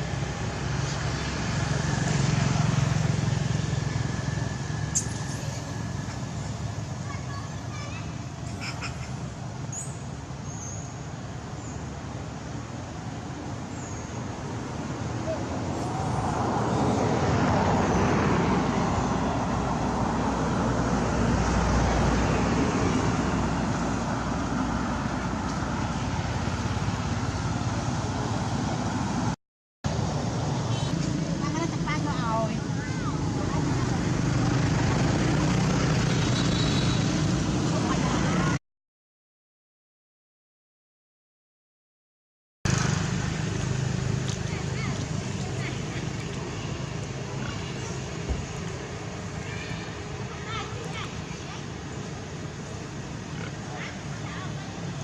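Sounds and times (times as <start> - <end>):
motor vehicle passing: 0.0 - 9.8, 13.2 - 38.6, 42.7 - 55.0.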